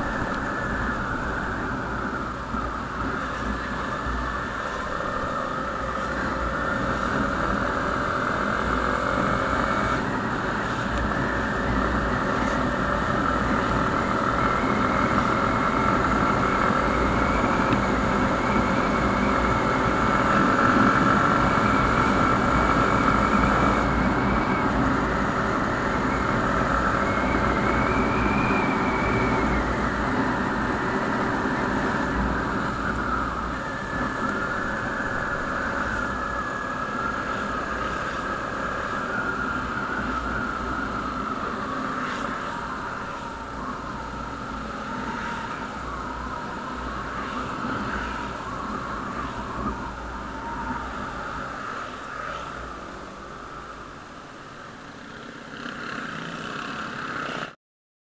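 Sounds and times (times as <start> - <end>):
wind rumble on microphone: 0.0 - 54.7.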